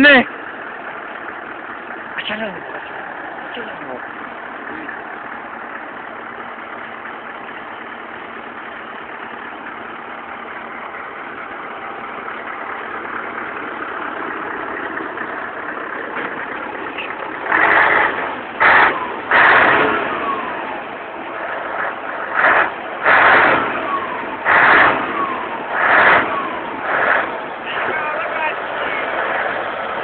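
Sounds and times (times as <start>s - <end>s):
diesel truck engine accelerating: 0.0s - 30.0s.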